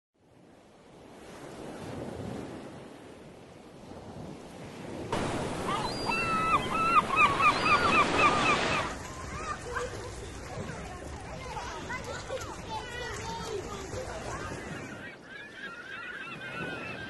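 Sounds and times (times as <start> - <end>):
surf washing on a beach: 0.2 - 17.0.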